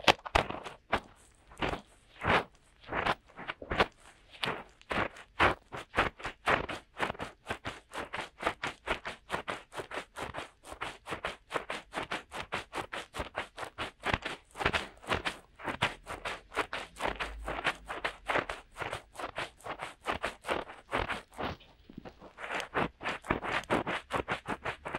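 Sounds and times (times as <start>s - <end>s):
fingers rubbing silicone microphone ears: 0.0s - 24.9s.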